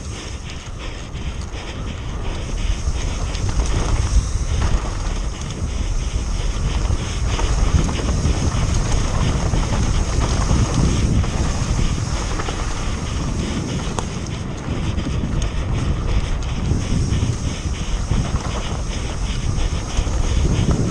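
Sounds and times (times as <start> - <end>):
bike rattling clicks: 0.0 - 20.9
low rumble of tyres on dirt: 0.0 - 20.9
wind buffeting microphone: 0.0 - 20.9.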